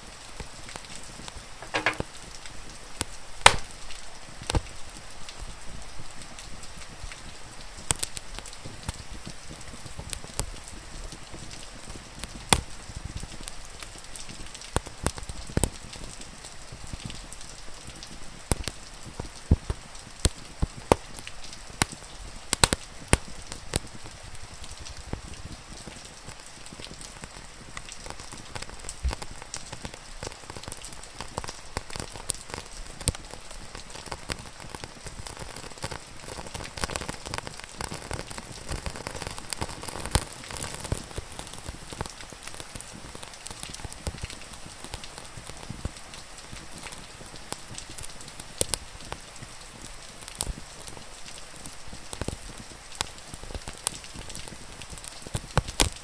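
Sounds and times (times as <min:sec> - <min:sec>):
steady rain falling: 0:00.0 - 0:56.0
wood fire crackling and popping: 0:00.0 - 0:56.0.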